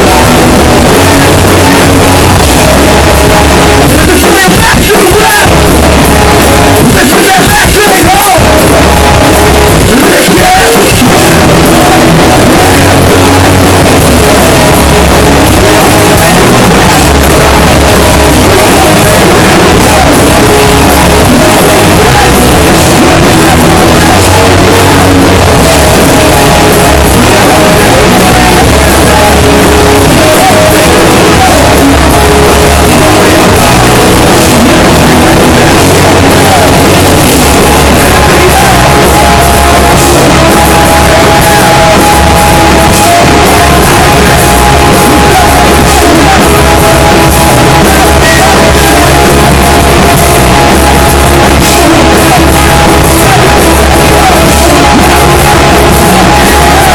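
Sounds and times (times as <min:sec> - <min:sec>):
distorted loud rock band: 0:00.0 - 0:56.9.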